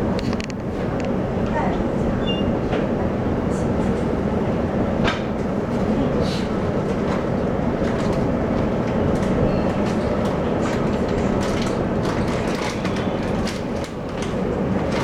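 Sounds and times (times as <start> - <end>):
train wheels rumbling on rail: 0.0 - 15.0
track clicks and knocks: 0.1 - 3.0, 5.0 - 5.9, 6.8 - 15.0.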